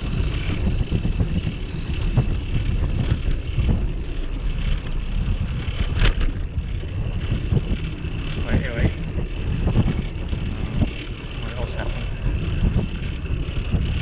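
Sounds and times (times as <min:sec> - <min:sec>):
bicycle rolling vibration: 0:00.0 - 0:14.0
wind rumbling on microphone: 0:00.0 - 0:14.0.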